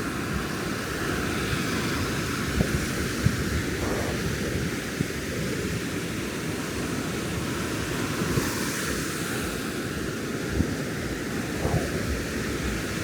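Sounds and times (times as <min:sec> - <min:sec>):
ocean surf breaking on beach: 0:00.0 - 0:13.0
wind buffeting microphone: 0:00.0 - 0:13.0.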